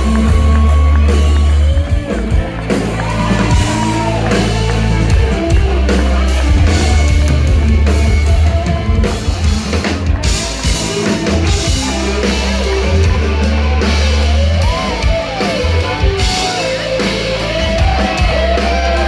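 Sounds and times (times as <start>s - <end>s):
country-rock band playing: 0.0s - 19.0s
sliding bent guitar notes: 0.0s - 19.0s.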